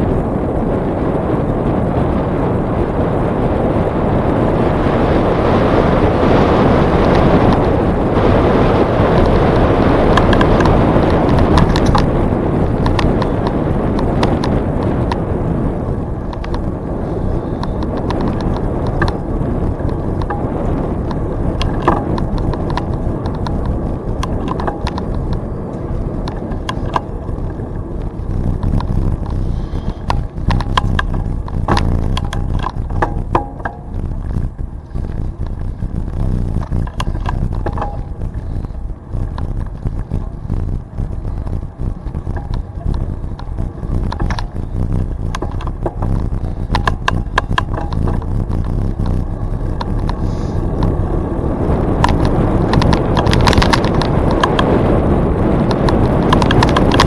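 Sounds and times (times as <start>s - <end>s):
bicycle tyre noise: 0.0s - 57.0s
bike clicks and rattles: 0.0s - 57.0s
wind on microphone: 0.0s - 57.0s.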